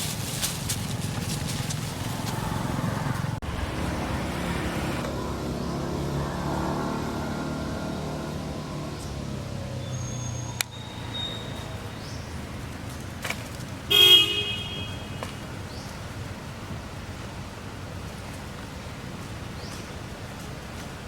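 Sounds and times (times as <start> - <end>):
road traffic: 0.0 - 21.0
vehicle engine humming: 0.0 - 21.0.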